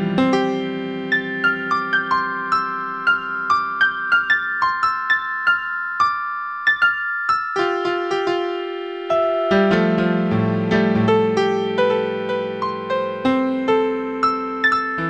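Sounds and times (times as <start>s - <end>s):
piano-like keyboard music: 0.0s - 15.0s.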